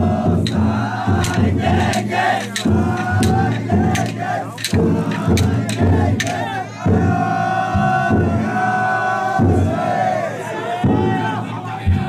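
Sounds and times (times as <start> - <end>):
crowd shouting a chant: 0.0 - 12.0.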